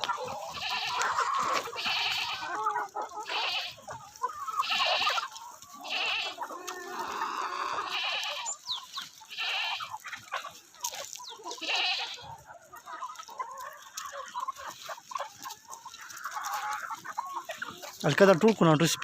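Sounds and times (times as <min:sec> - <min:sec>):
chickens and chicks calling: 0:00.0 - 0:19.0.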